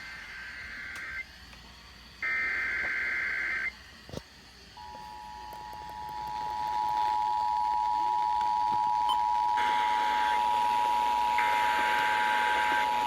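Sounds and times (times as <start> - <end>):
harsh buzzing data bursts: 0.0 - 1.3, 2.2 - 3.8, 4.9 - 13.0.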